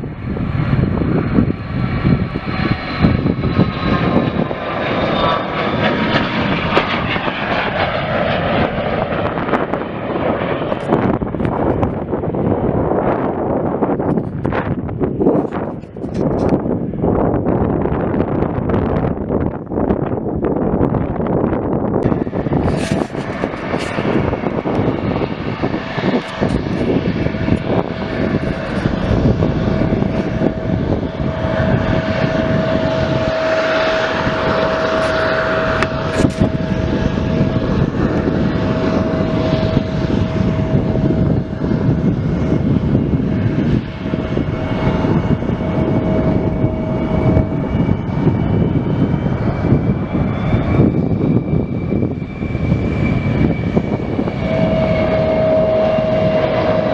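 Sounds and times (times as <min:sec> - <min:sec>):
airplane engines running: 0:00.0 - 0:56.9.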